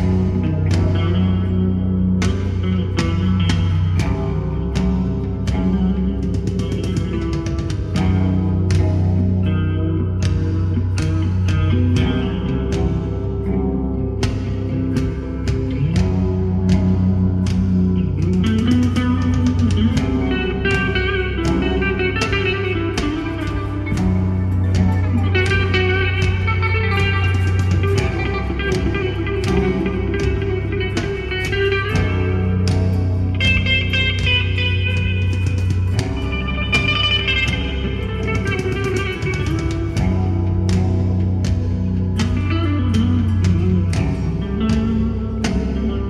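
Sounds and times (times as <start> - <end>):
bass: 0.0 - 46.0
blues-rock electric guitar music: 0.0 - 46.0
steady drum beat: 0.0 - 46.0.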